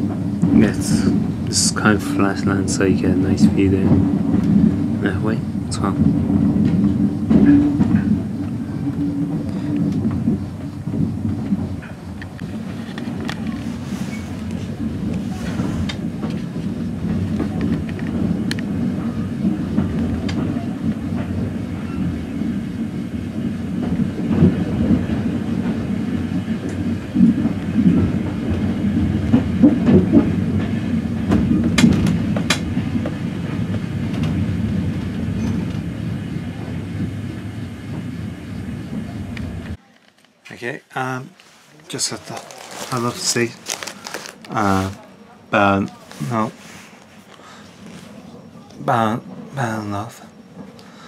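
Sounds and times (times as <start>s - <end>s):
railway carriage rumble: 0.0s - 39.9s, 40.5s - 51.0s.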